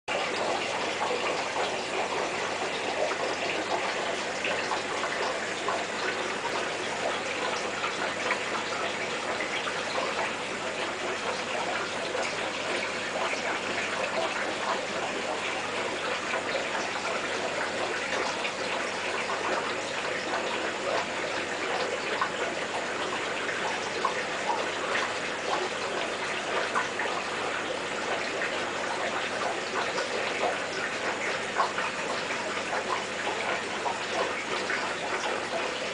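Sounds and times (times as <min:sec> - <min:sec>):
aquarium filter water bubbling: 0:00.1 - 0:35.9.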